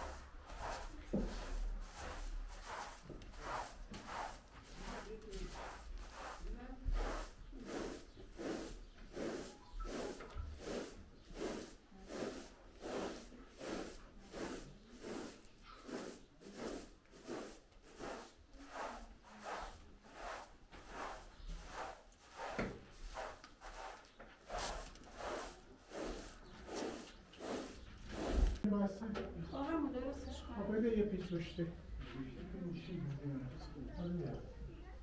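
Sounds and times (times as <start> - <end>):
broom sweeping carpet: 0.0 - 28.7.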